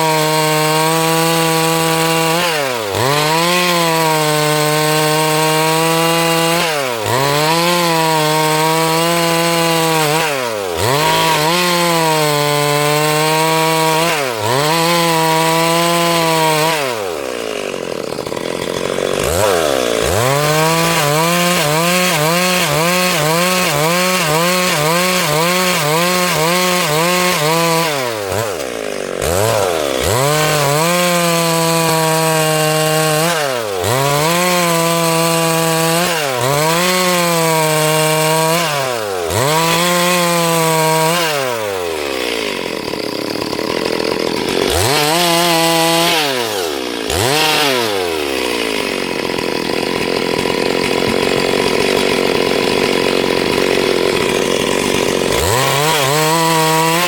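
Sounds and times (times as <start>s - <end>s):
chainsaw ripping a log: 0.0s - 57.0s.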